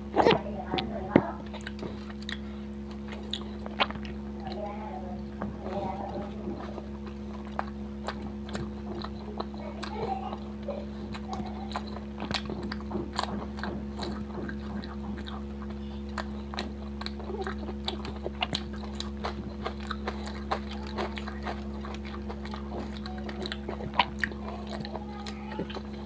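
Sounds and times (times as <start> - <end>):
steady low hum: 0.0 - 26.0
wet mouth chewing: 0.0 - 26.0.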